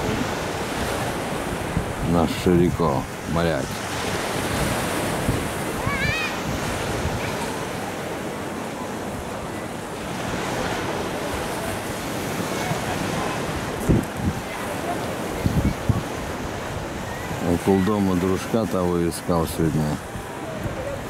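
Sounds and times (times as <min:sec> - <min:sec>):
wind on microphone: 0:00.0 - 0:17.9, 0:19.6 - 0:21.0.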